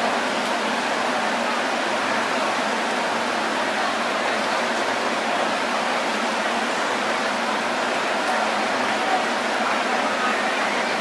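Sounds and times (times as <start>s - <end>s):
stadium crowd hubbub: 0.0s - 11.0s.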